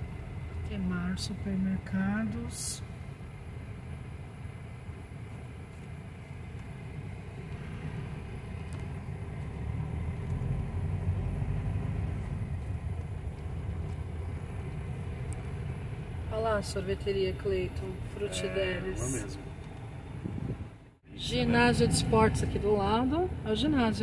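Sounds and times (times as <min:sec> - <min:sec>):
car engine rumble: 0:00.0 - 0:24.0
tyres on road: 0:00.0 - 0:24.0.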